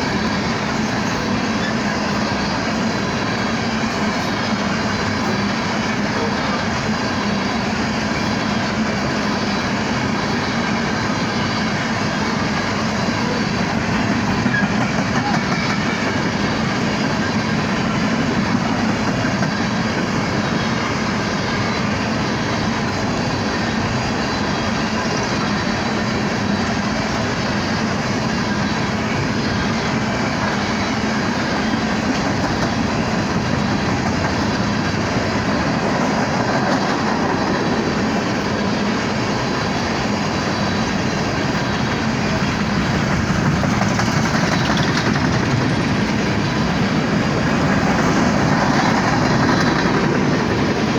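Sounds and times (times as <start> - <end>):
freight train wheels on rail: 0.0 - 50.9
wheels clacking over rail joints: 0.0 - 50.9.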